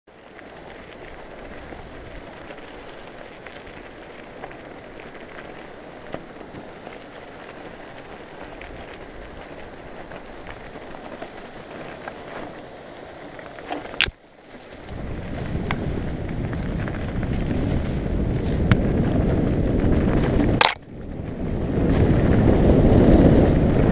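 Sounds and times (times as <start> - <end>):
wind: 0.0 - 23.9
bike clicking and rattling: 0.1 - 23.9
bike tyres on gravel: 0.1 - 23.9.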